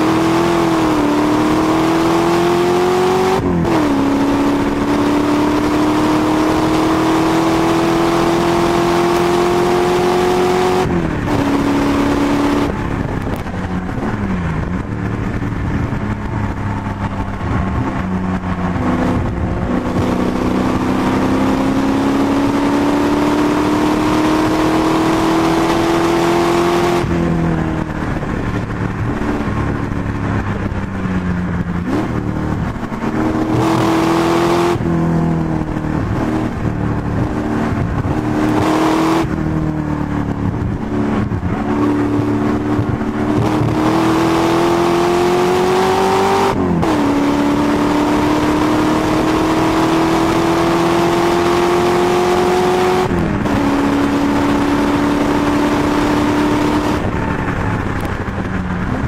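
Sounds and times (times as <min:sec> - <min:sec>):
race car engine revving hard: 0:00.0 - 0:30.5, 0:31.8 - 0:58.4.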